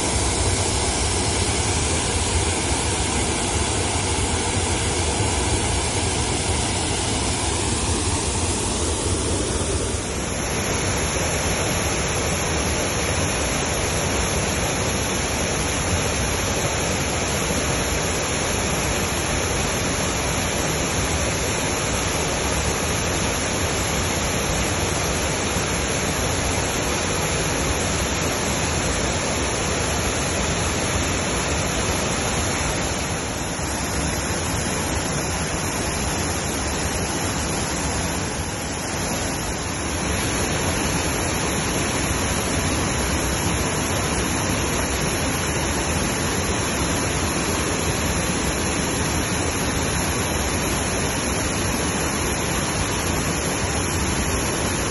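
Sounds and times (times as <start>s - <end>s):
small waterfall rushing: 0.0s - 54.9s.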